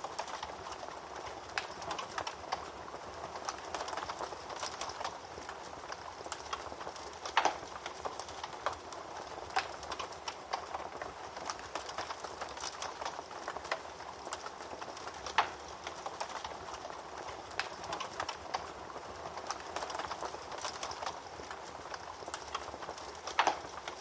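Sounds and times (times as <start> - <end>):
fire popping: 0.0 - 24.0
wood fire crackling: 0.0 - 24.0.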